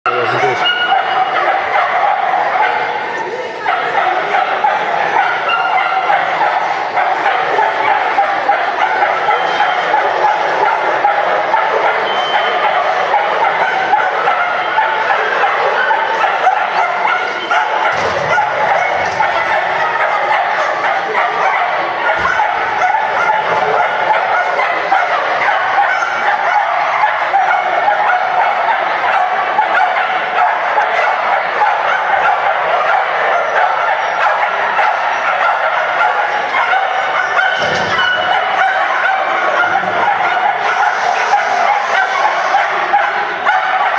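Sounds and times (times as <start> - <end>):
dogs barking and yipping: 0.1 - 43.9.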